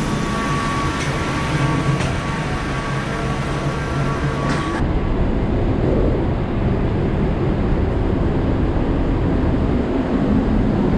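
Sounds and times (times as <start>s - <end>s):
constant low hum: 0.0s - 10.9s.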